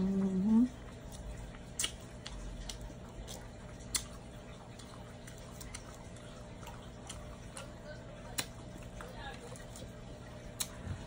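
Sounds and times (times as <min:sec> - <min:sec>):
chewing: 0:00.0 - 0:11.0
faint hum: 0:00.0 - 0:11.0.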